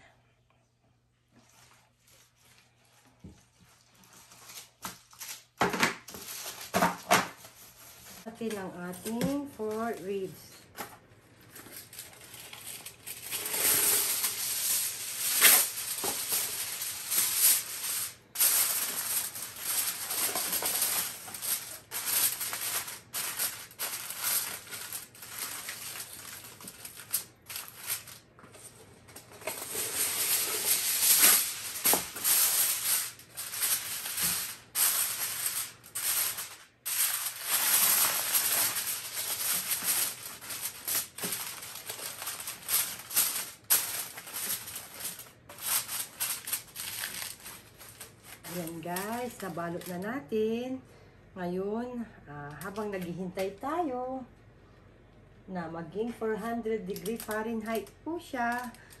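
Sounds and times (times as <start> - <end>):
aluminium foil crinkling: 1.4 - 50.3, 52.5 - 53.8, 56.7 - 59.0.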